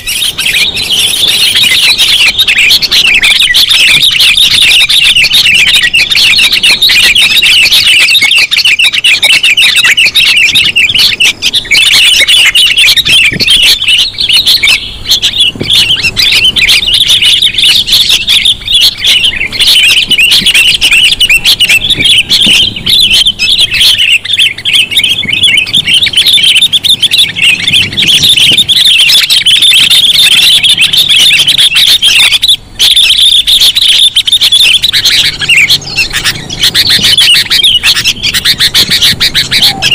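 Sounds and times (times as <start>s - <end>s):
bulbuls chirping and chattering: 0.0s - 39.9s.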